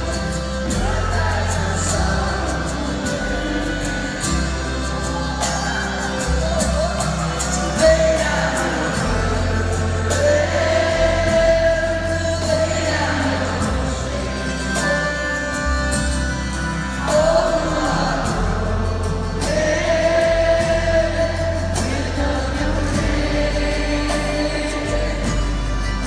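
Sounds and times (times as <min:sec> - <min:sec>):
live band with guitar and banjo: 0:00.0 - 0:26.0
voices singing together: 0:00.0 - 0:26.0.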